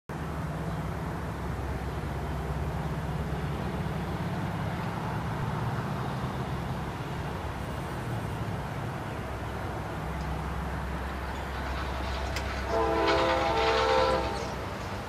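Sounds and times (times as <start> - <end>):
cars over grade crossing: 0.1 - 15.0
road traffic rumble: 0.1 - 15.0.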